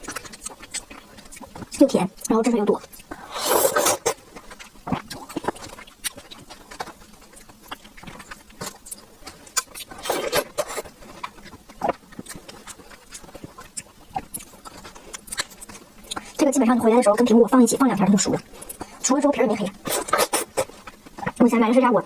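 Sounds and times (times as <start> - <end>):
wet chewing: 0.0 - 21.9.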